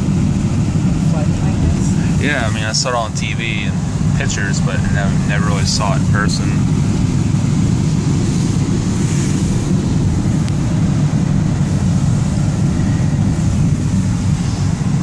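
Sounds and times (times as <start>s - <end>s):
heavy rain on car: 0.0s - 15.0s.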